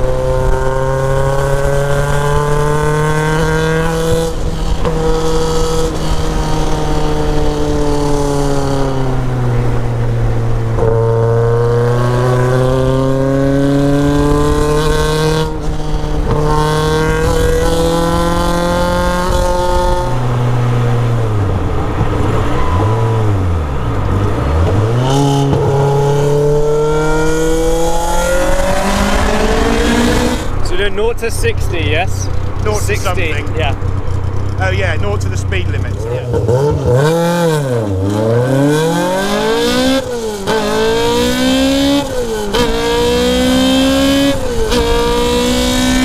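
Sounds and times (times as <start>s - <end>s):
car engine revving hard: 0.0s - 46.0s
wind and road noise: 0.0s - 46.0s.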